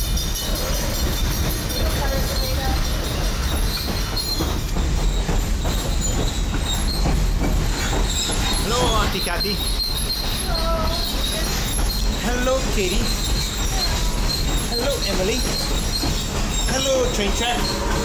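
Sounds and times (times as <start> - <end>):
short high squeals: 0.0 - 18.0
train wheels rumbling and rattling: 0.0 - 18.0.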